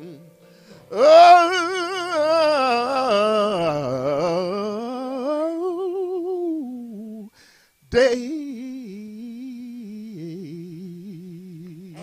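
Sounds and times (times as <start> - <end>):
man singing unaccompanied: 0.0 - 0.3, 0.9 - 12.0.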